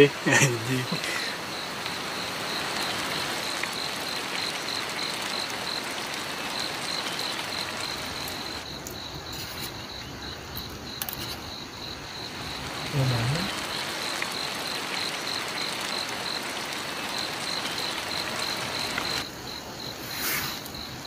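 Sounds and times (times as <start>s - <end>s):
constant hiss: 0.0s - 21.0s
crickets chirping: 0.0s - 21.0s.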